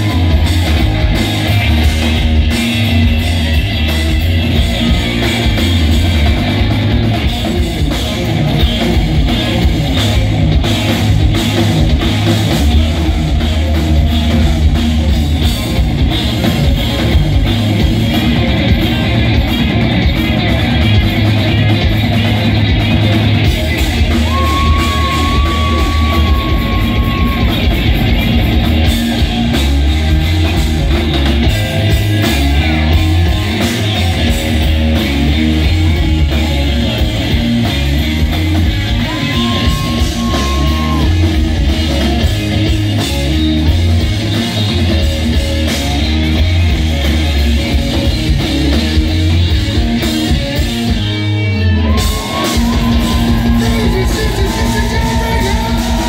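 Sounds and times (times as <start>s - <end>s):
bass: 0.0s - 56.0s
drums: 0.0s - 56.0s
electric guitars: 0.0s - 56.0s.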